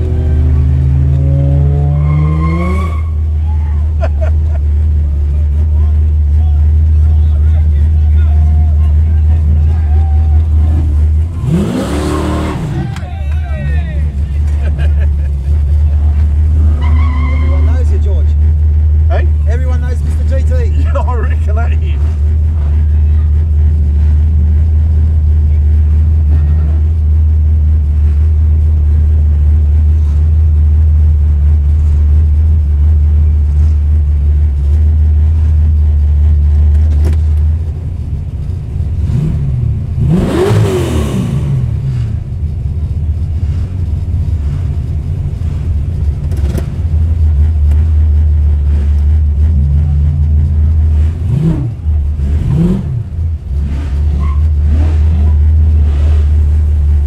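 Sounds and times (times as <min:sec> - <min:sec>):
engine rumbling and revving: 0:00.0 - 0:57.0.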